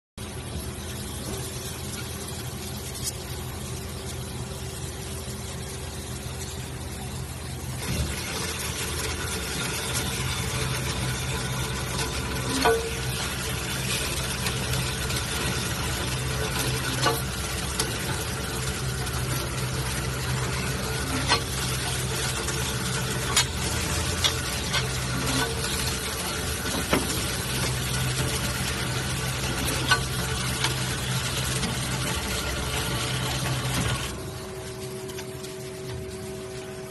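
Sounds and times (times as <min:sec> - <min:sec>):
low motor hum: 0:00.2 - 0:36.9.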